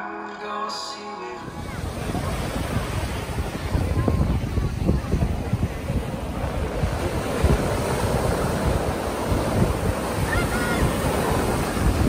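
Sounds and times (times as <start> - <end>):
ocean surf on beach: 0.7 - 12.0
wind buffeting microphone: 1.4 - 12.0.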